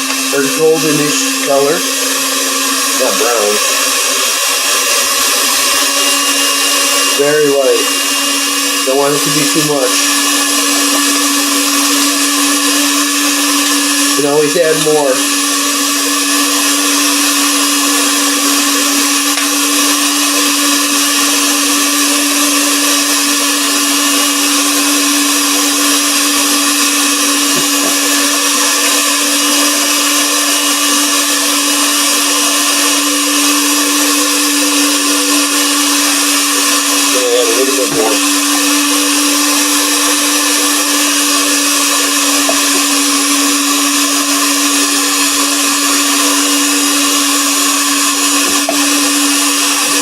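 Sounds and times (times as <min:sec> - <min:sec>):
electric mixer whirring: 0:00.0 - 0:50.0.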